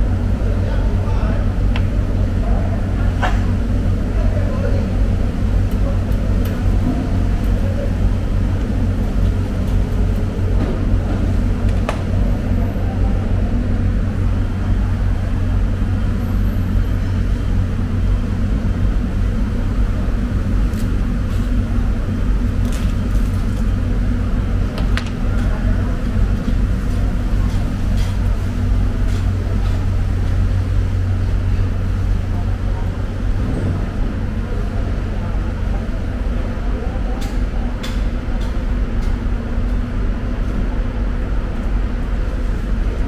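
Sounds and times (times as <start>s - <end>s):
machinery rumbling: 0.0s - 43.0s.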